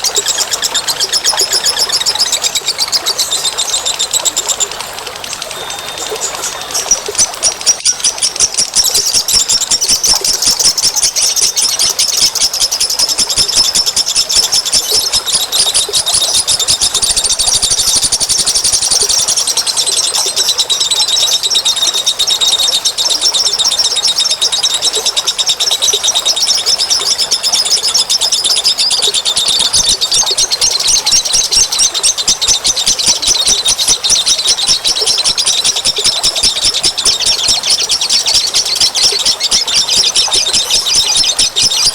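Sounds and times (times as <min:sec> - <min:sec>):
songbirds chattering and twittering: 0:00.0 - 0:41.9.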